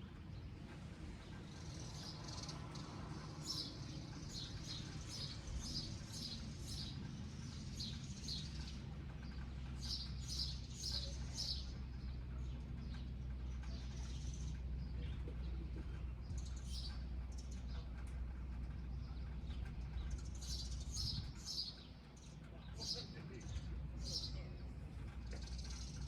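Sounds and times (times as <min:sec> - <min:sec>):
low steady rumble: 0:00.0 - 0:26.0
small birds chirping: 0:00.0 - 0:26.0.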